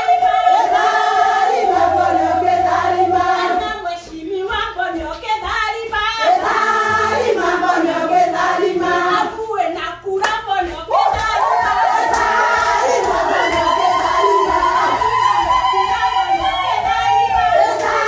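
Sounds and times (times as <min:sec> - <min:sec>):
choir singing: 0:00.0 - 0:04.1, 0:06.2 - 0:09.5, 0:10.9 - 0:18.0.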